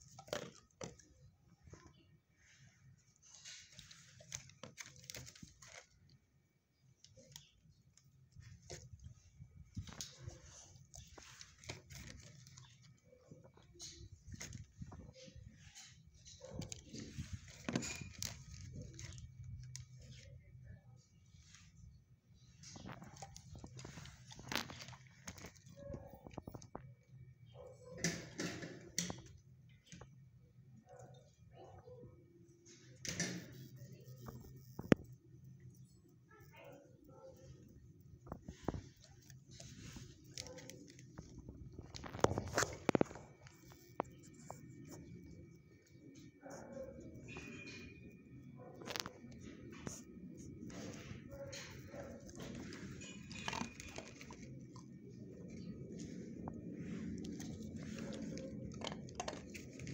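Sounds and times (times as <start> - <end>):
faint clicks and rustles: 0.0 - 59.9.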